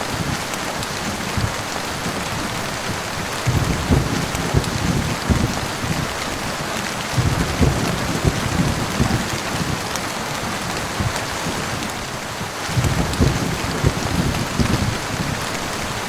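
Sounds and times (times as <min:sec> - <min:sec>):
heavy rain: 0:00.0 - 0:16.0
low rumble of thunder: 0:00.0 - 0:16.0.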